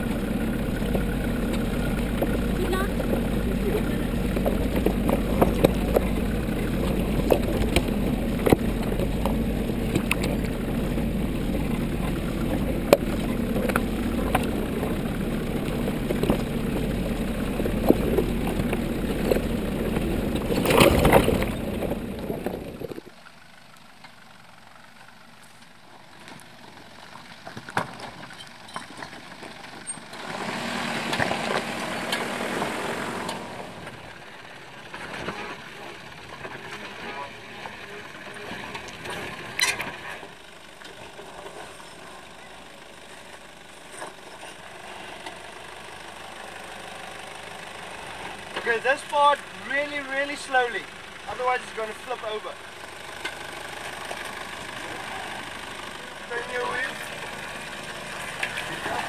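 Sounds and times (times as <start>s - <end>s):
stones crunching under tyre: 0.0s - 46.6s, 47.8s - 59.0s
vehicle engine at low revs: 0.0s - 59.0s.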